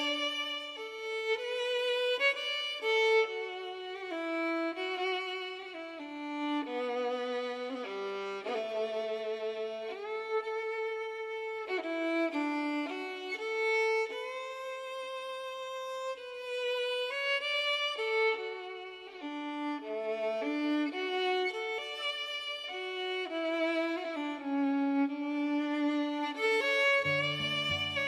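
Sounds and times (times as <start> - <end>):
fiddle playing slow melody: 0.0 - 28.0.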